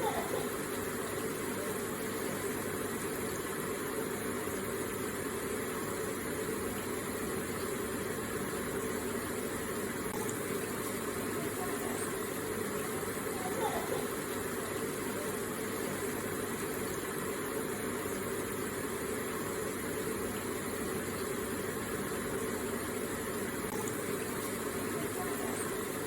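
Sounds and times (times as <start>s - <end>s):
water feature running: 0.0s - 26.0s.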